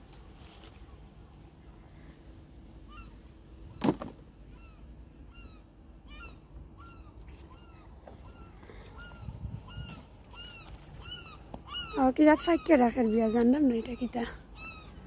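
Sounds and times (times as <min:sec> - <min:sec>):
distant birds honking: 0:02.8 - 0:15.0.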